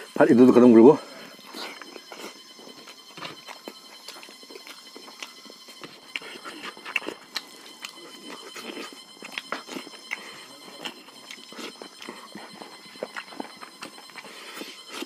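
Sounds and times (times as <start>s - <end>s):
chewing and lip smacking: 1.4s - 15.0s.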